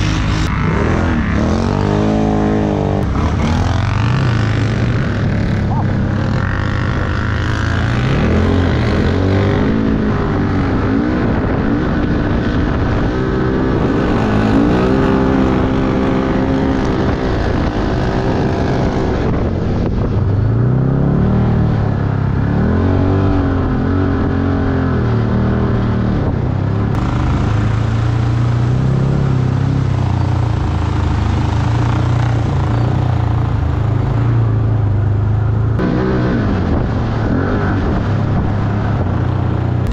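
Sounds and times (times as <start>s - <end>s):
off-road vehicle engine under load: 0.0s - 39.9s.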